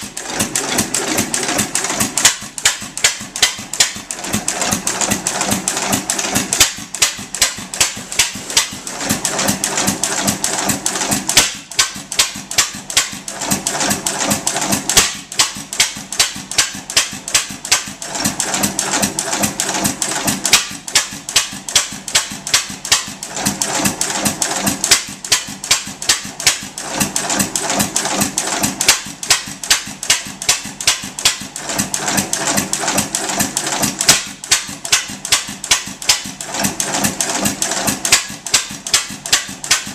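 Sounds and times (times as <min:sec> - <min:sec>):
gas engine clicking and ticking: 0:00.0 - 0:39.9.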